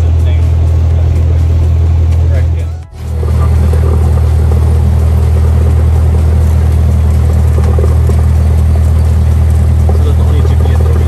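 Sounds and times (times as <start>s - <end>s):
light aircraft engine droning: 0.0s - 11.0s.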